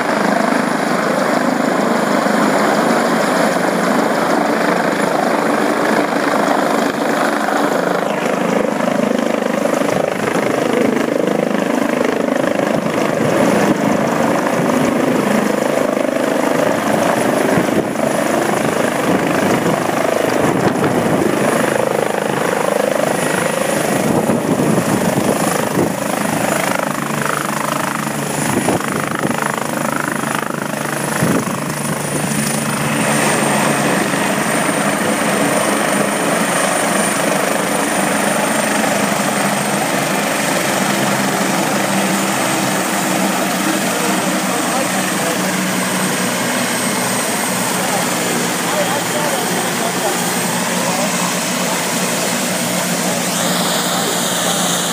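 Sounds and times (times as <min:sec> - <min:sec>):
helicopter rotor and engines: 0:00.0 - 0:54.9.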